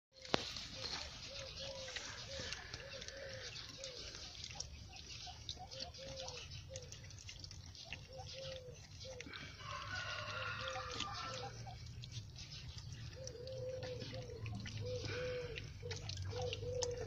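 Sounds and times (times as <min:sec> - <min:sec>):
puppies lapping milk: 0:00.2 - 0:17.0.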